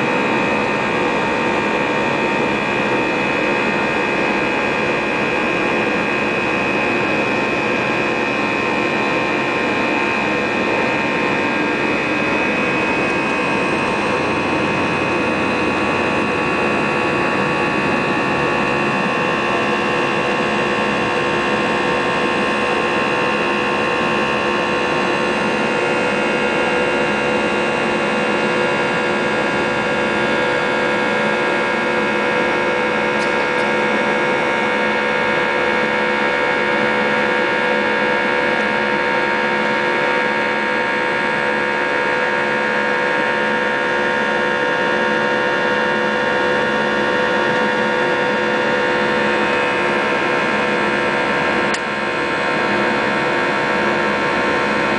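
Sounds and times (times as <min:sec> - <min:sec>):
jet engine drone in cabin: 0:00.0 - 0:54.9.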